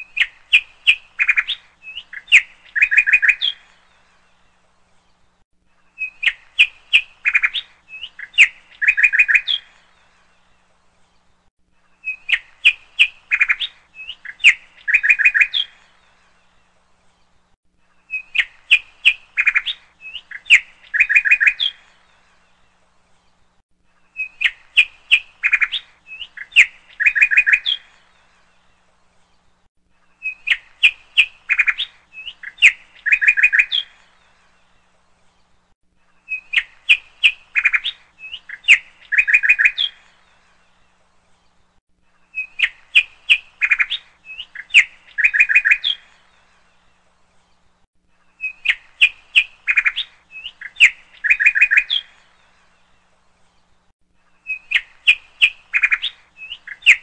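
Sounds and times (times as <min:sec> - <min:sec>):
bird chirping and trilling: 0:00.0 - 0:04.3, 0:05.9 - 0:10.2, 0:11.8 - 0:16.6, 0:18.0 - 0:22.5, 0:24.0 - 0:28.7, 0:30.1 - 0:34.8, 0:36.1 - 0:40.8, 0:42.2 - 0:53.7, 0:54.4 - 0:57.0.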